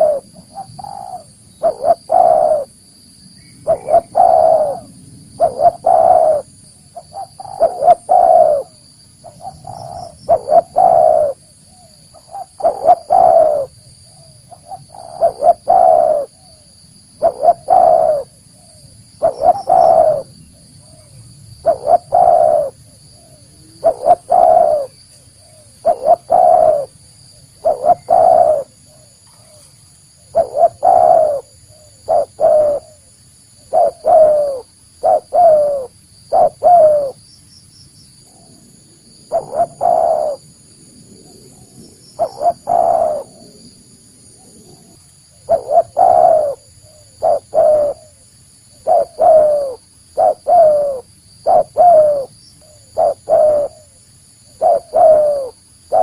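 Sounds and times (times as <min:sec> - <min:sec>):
dove cooing: 0:00.0 - 0:02.8, 0:03.6 - 0:37.2, 0:38.3 - 0:40.6, 0:41.2 - 0:56.0.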